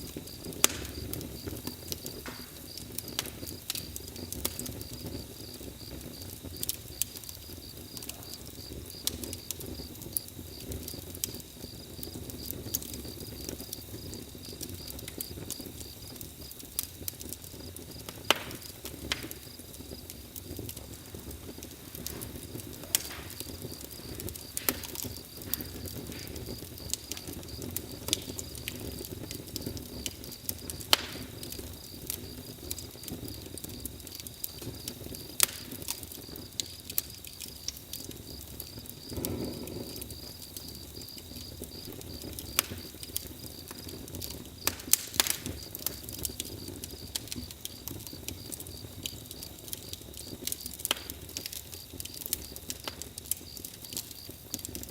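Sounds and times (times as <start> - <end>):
campfire crackles and pops: 0.0 - 54.9
low rush of flame: 0.0 - 54.9.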